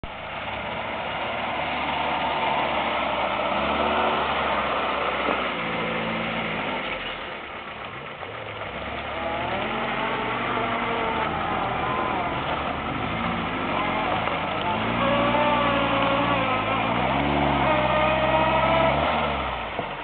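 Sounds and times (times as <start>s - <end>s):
off-road vehicle engine revving: 0.2s - 20.0s.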